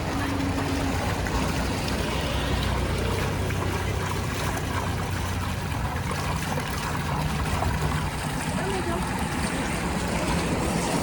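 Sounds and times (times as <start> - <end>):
water-like noise: 0.0 - 11.0.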